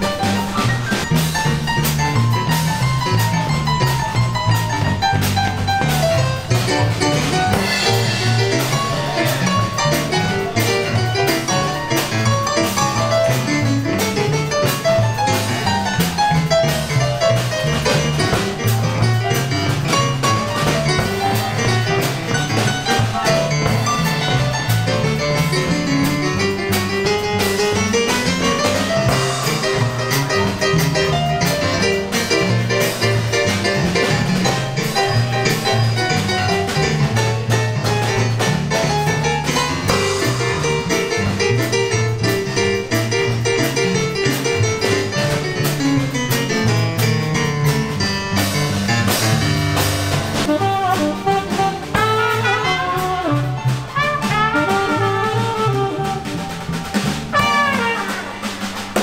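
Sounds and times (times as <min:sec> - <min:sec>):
jazz band playing: 0:00.0 - 0:59.0
stage piano runs: 0:00.0 - 0:59.0.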